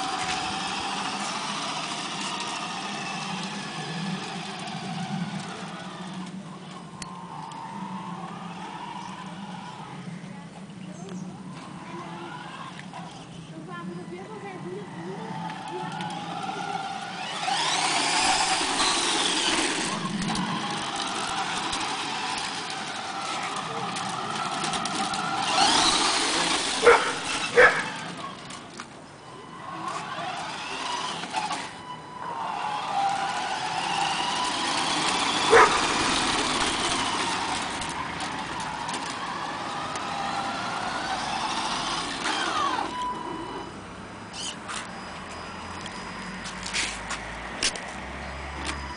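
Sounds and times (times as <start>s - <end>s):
electric motor whining: 0.0s - 10.3s, 11.5s - 47.8s.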